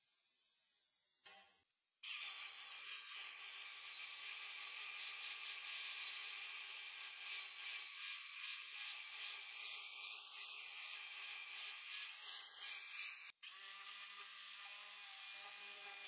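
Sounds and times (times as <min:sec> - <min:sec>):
belt sander sanding wood: 0:02.1 - 0:16.0
power tool motor hum: 0:02.1 - 0:16.0.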